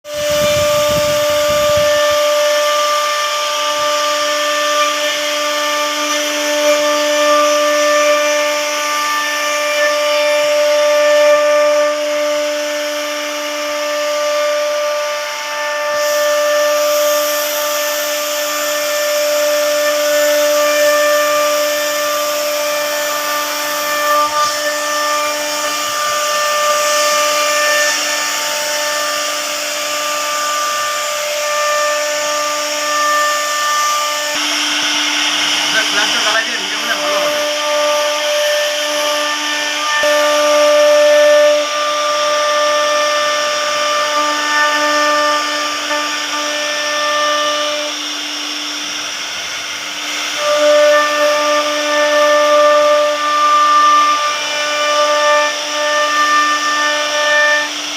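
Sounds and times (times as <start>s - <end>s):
router cutting noise: 0.0s - 57.9s
router spindle whine: 0.0s - 57.9s.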